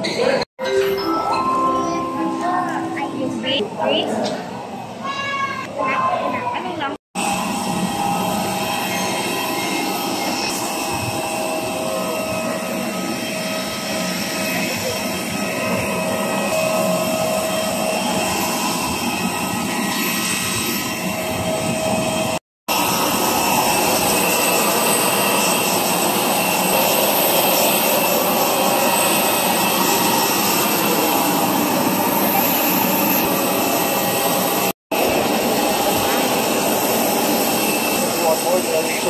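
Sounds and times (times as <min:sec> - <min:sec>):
jet aircraft rushing and whining: 0:02.7 - 0:39.0.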